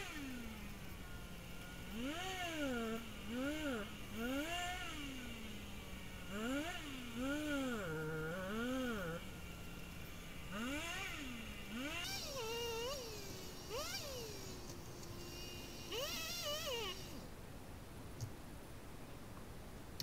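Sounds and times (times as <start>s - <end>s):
chainsaw revving: 0.0s - 17.2s.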